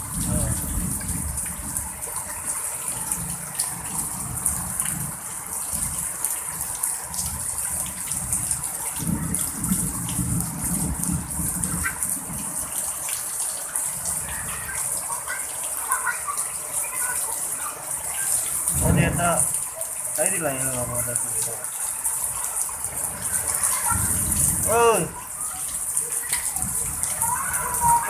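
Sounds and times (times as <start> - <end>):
heavy rain in strong wind: 0.0 - 28.0.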